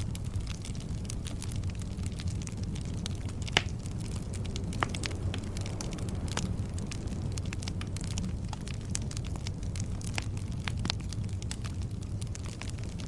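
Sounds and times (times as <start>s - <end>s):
campfire crackling: 0.0s - 13.0s
low rumble: 0.0s - 13.0s.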